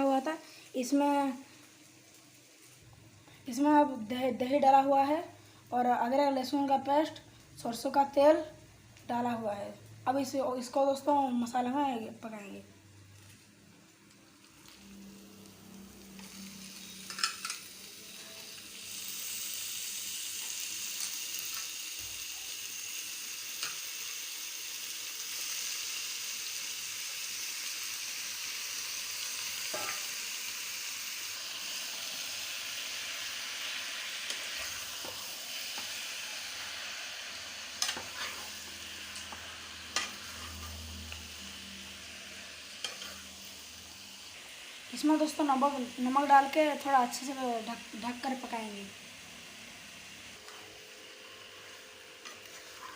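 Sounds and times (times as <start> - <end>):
chicken sizzling in a pan: 0.0 - 2.8, 13.1 - 52.9.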